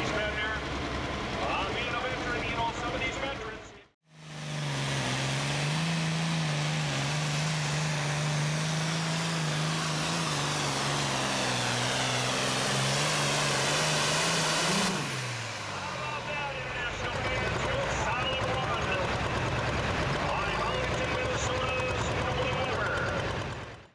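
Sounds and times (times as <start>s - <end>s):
tractor diesel engine droning: 0.0s - 23.9s.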